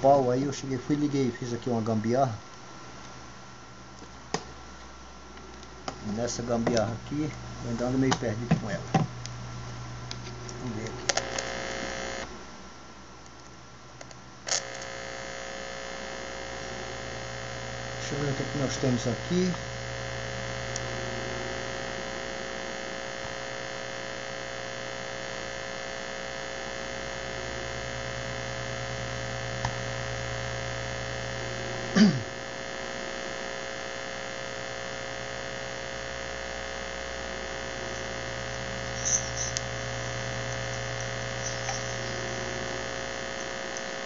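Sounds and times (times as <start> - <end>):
electrical mains hum: 0.0 - 44.0.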